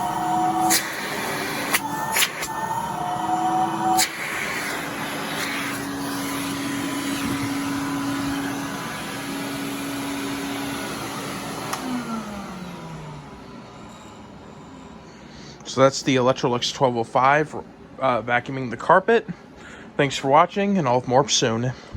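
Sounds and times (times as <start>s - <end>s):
vacuum cleaner running: 0.0s - 18.6s.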